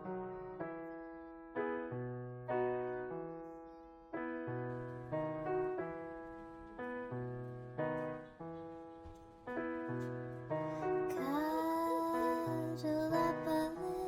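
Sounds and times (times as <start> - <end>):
slow soft piano chords: 0.0 - 14.0.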